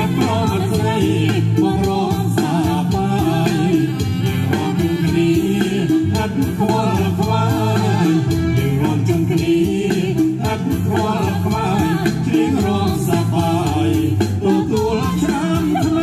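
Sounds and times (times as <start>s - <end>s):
song from portable speaker: 0.0s - 16.0s.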